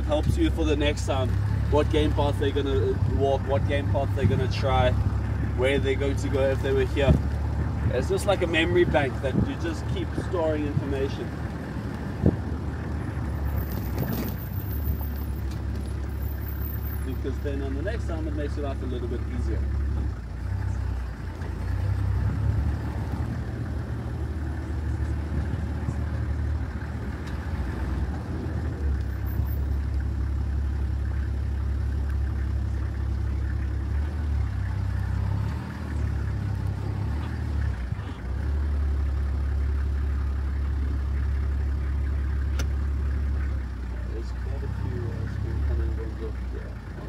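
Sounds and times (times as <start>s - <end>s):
tyre and road noise: 0.0s - 47.0s
vehicle engine rumble: 0.0s - 47.0s.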